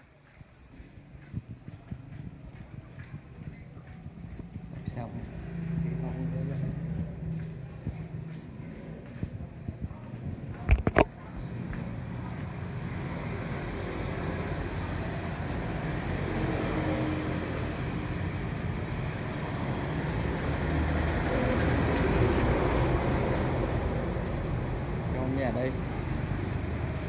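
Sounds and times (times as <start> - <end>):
moving vehicle rumbling: 0.7 - 27.0.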